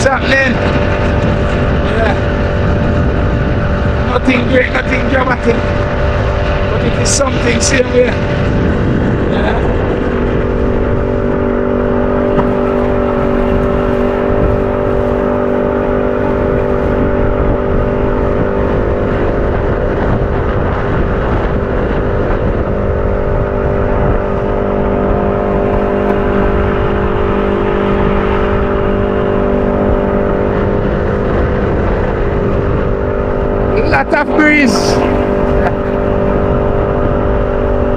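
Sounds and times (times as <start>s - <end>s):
heavy wind noise: 0.0s - 37.9s
outboard motor running: 0.0s - 37.9s.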